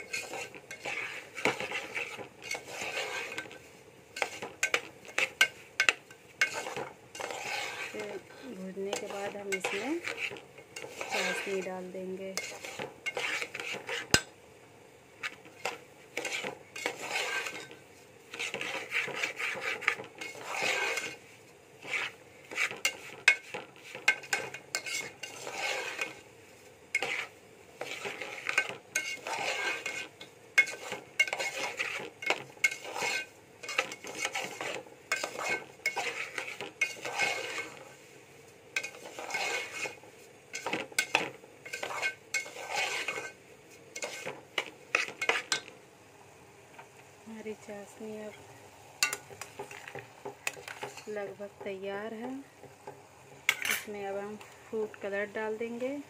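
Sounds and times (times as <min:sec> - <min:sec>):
metal spoon scraping steel pan: 0:00.0 - 0:03.6, 0:04.2 - 0:14.3, 0:15.2 - 0:21.2, 0:21.8 - 0:26.3, 0:26.9 - 0:38.0, 0:38.8 - 0:45.7, 0:49.0 - 0:51.4, 0:53.5 - 0:54.0.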